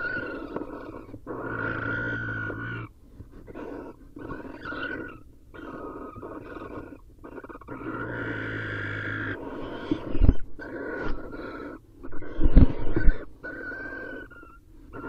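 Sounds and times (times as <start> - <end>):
owls screeching and hissing: 0.0 - 15.0.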